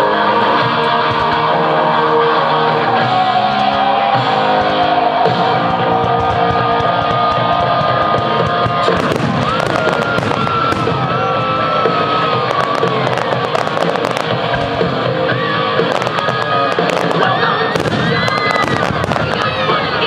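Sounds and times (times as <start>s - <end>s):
music with long held notes: 0.0s - 20.0s
fireworks bangs and crackles: 3.0s - 20.0s.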